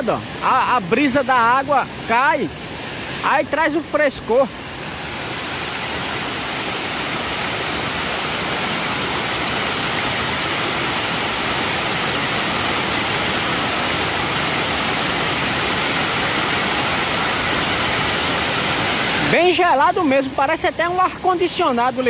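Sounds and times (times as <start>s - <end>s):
waterfall splashing into pool: 0.0s - 22.0s.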